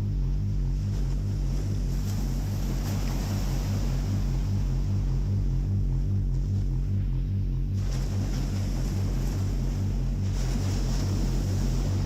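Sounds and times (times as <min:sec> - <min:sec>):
pulsing synthesizer bass tone: 0:00.0 - 0:12.0.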